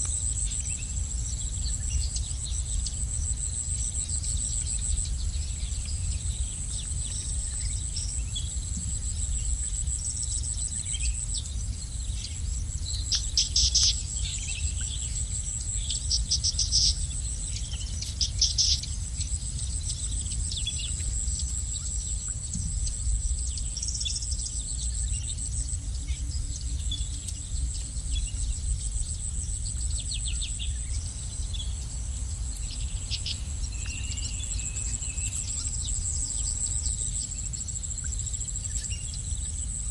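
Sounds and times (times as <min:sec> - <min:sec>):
high-pitched insect drone: 0:00.0 - 0:39.9
small birds chirping: 0:00.0 - 0:39.9.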